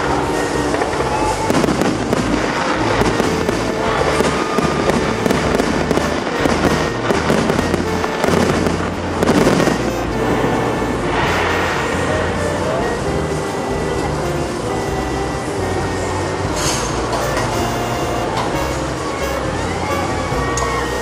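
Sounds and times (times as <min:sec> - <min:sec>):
fireworks bursting and crackling: 0:00.0 - 0:21.0
music: 0:00.0 - 0:21.0.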